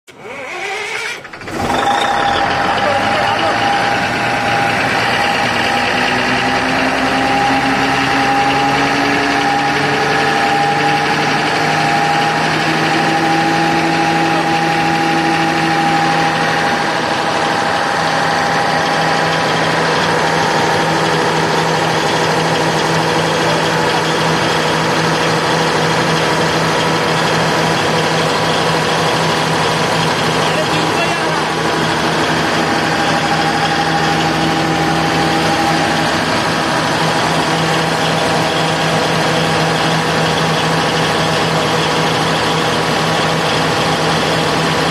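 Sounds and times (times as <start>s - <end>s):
diesel generator drone: 0.1s - 44.9s.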